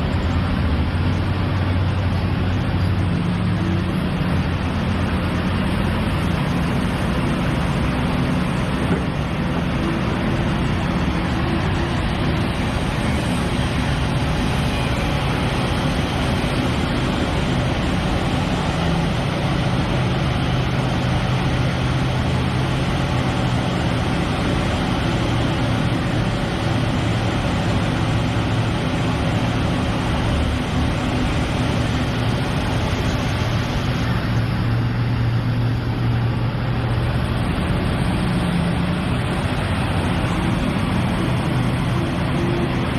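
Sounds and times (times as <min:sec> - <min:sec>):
excavator diesel engine droning: 0:00.0 - 0:42.9.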